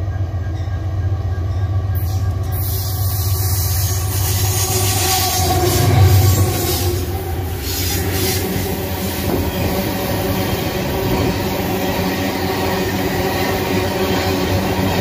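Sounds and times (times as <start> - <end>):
steel wheels rolling on rails: 1.9 - 15.0.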